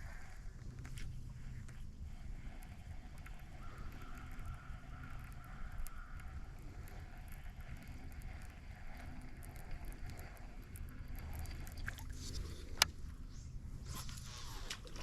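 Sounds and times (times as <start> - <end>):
faint clicks: 0.0 - 15.0
faint steady whine: 0.0 - 15.0
wind rumble on microphone: 0.0 - 15.0.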